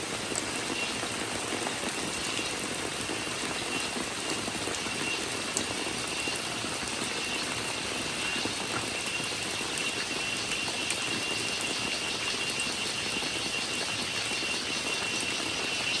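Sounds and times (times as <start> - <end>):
cicada drone: 0.0 - 16.0
steady rain: 0.0 - 16.0.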